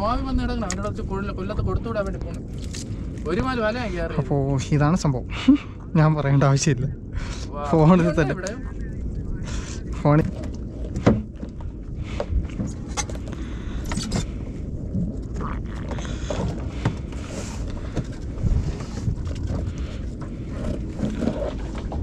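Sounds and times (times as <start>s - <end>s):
water around boat: 0.0s - 22.0s
wind: 0.0s - 22.0s.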